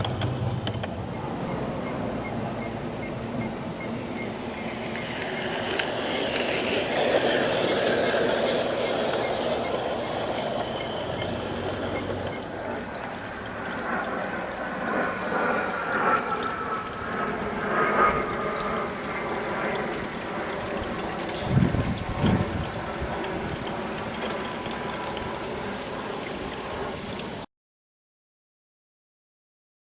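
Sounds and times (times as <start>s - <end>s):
cricket chirping: 0.0s - 5.6s, 7.2s - 27.4s
model train running: 0.0s - 27.4s.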